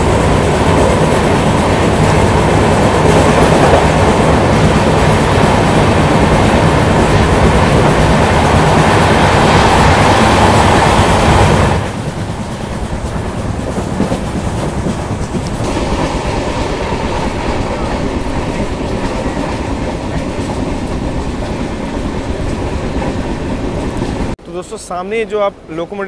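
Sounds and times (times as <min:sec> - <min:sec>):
wheels clattering over rails: 0:00.0 - 0:24.4
train rolling noise: 0:00.0 - 0:26.0.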